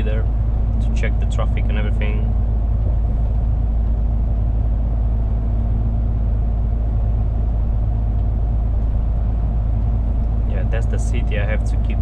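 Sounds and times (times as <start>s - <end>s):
truck engine drone: 0.0s - 12.0s
tyre road noise: 0.0s - 12.0s.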